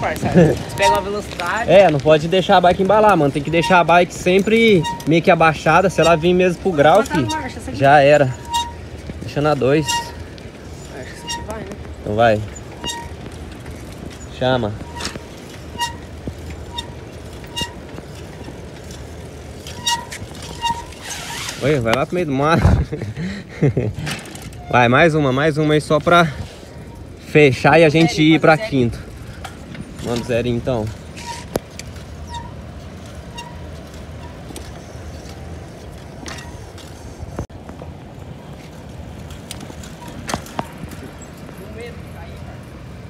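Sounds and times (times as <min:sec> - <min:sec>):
bicycle tyres on asphalt: 0:00.0 - 0:43.0.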